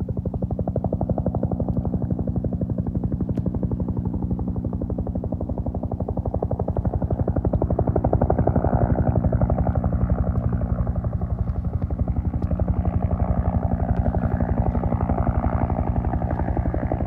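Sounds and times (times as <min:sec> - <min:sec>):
helicopter rotor beating: 0:00.0 - 0:17.0
turbine engine whine: 0:00.0 - 0:17.0.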